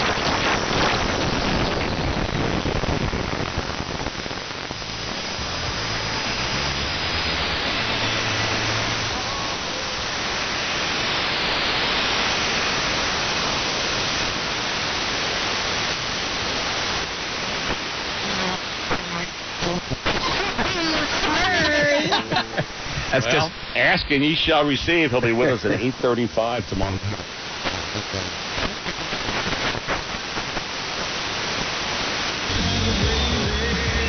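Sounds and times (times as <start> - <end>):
radio static hiss: 0.0 - 34.0
static crackles: 0.0 - 34.0.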